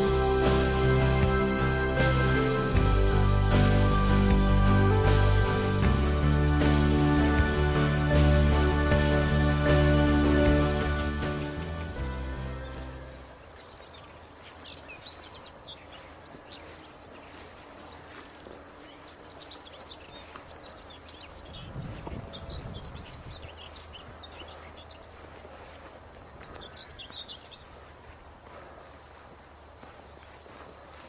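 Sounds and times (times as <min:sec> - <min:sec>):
outdoor background hiss: 0:00.0 - 0:22.2, 0:22.9 - 0:31.0
small birds chirping: 0:00.0 - 0:31.0.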